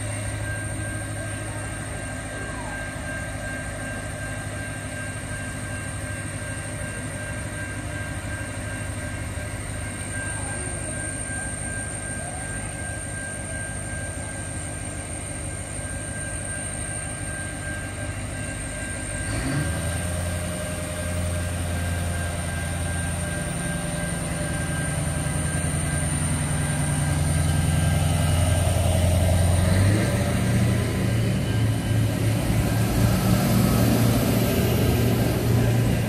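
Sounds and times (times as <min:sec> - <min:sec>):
diesel train engines passing: 0:00.0 - 0:36.0.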